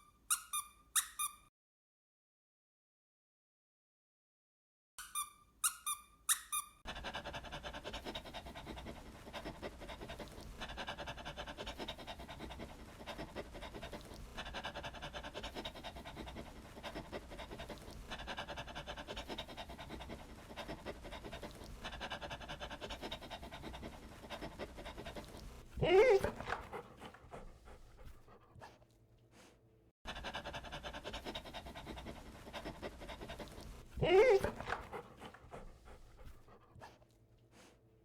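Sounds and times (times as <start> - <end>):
dog panting: 6.9 - 38.0.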